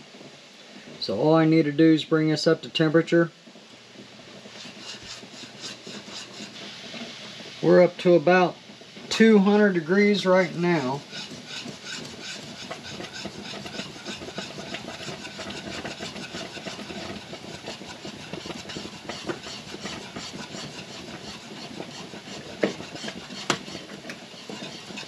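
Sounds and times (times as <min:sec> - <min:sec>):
whisk scraping a pot: 0:01.2 - 0:25.0.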